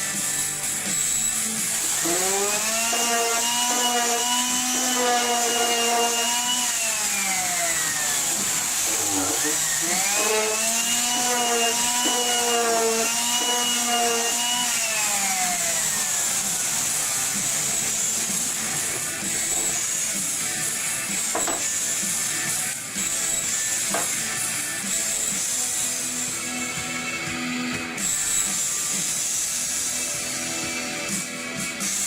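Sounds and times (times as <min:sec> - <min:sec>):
power tool motor whining: 0:00.1 - 0:30.0.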